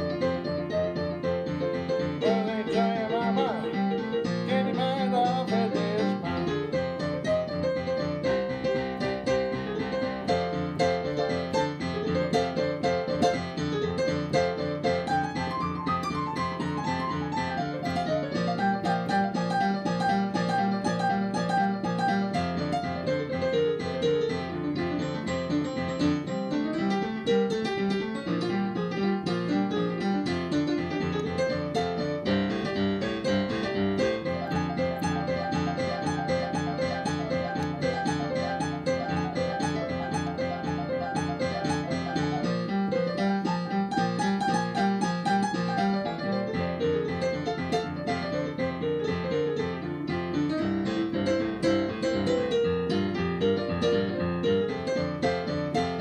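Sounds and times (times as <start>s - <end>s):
boogie-woogie piano: 0.0s - 56.0s.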